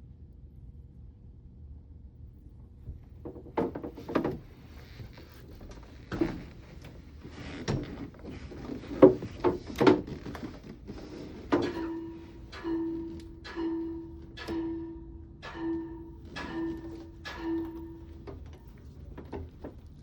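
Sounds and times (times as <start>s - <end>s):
knocks and clunks on pump housing: 2.9s - 20.0s.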